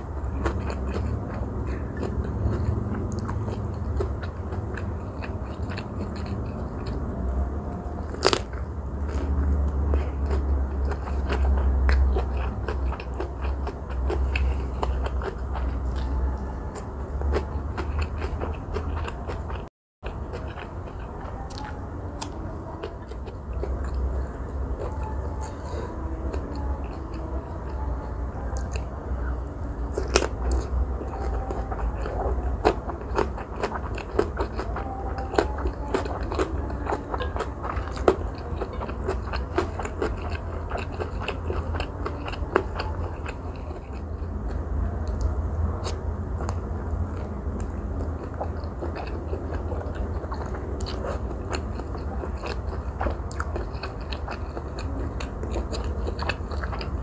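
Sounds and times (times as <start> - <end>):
crunching and chewing vegetables: 0.0 - 57.0.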